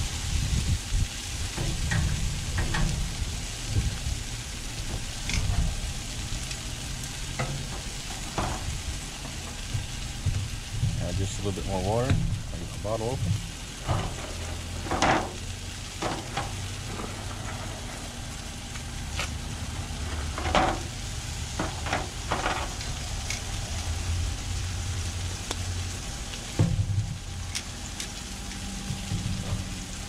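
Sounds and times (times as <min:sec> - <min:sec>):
vegetables sizzling on a griddle: 0:00.0 - 0:30.0
water hissing on hot steel: 0:00.0 - 0:30.0.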